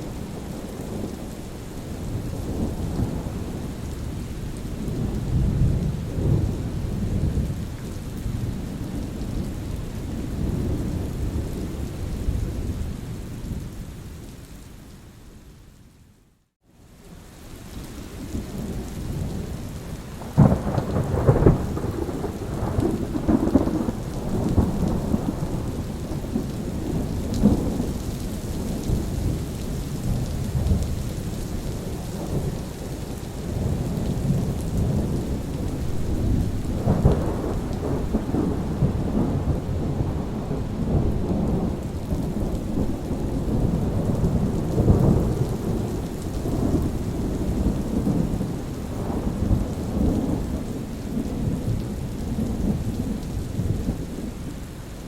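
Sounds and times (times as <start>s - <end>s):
steady rain: 0.0s - 55.0s
low rolling thunder: 1.9s - 13.7s, 18.2s - 54.4s.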